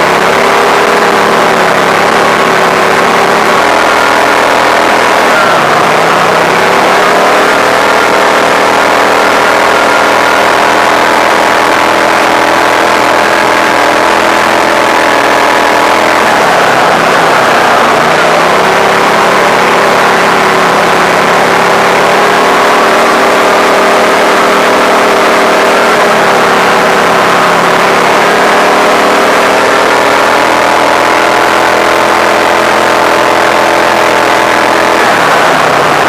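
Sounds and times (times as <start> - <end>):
all-terrain vehicle engine running: 0.0 - 36.0.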